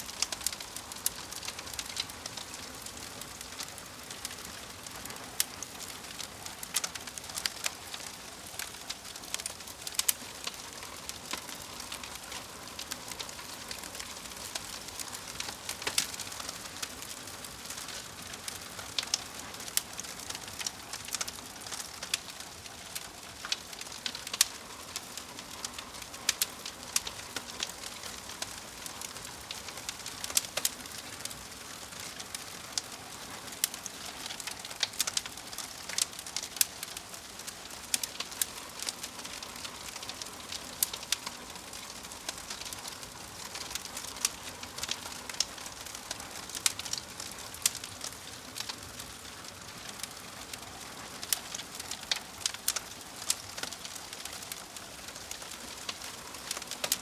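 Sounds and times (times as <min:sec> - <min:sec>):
log fire crackling: 0:00.0 - 0:57.0
steady fire hiss: 0:00.0 - 0:57.0.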